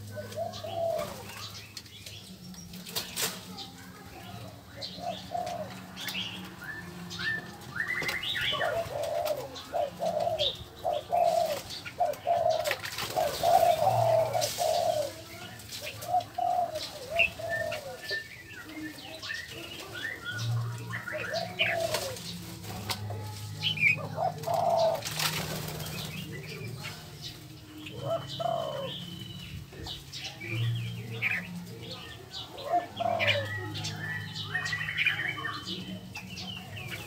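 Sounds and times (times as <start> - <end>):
birds making low calls: 0.0 - 37.0.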